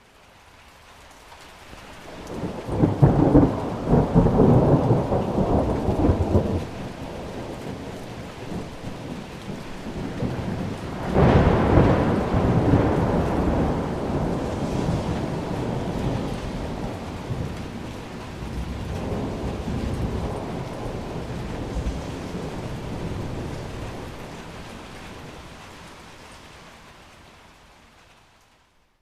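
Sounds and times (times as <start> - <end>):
steady rain: 0.0 - 29.0
thunder rumbling: 2.1 - 26.3.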